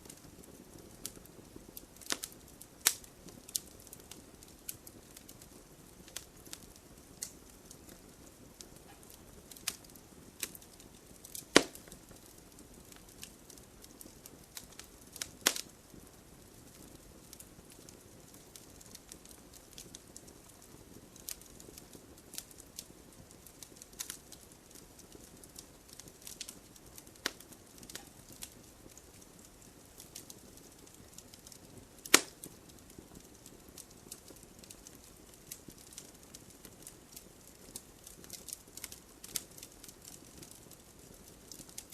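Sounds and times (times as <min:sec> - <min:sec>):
loud pops from fire: 0:00.0 - 0:41.9
wood fire crackling: 0:00.0 - 0:41.9.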